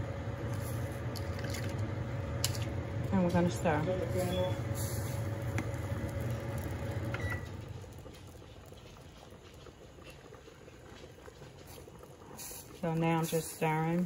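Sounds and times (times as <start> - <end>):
sauce simmering: 0.0 - 14.0
steady low hum: 0.0 - 14.0.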